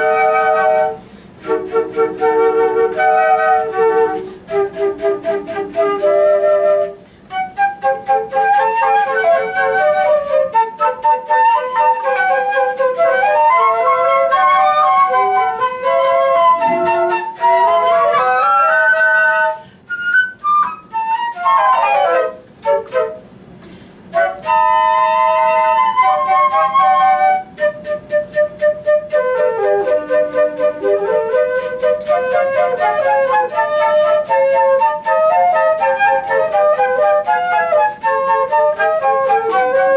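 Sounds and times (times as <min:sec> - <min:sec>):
lively flute melody: 0:00.0 - 0:39.9.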